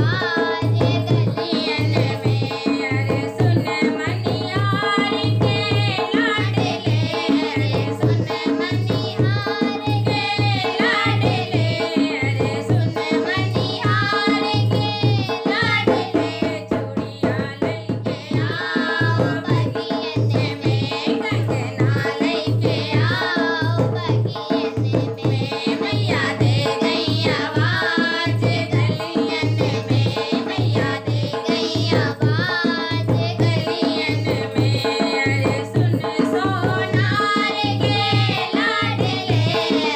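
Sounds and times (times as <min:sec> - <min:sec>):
hand drum beat: 0:00.0 - 0:39.9
person singing devotional song: 0:00.0 - 0:39.9.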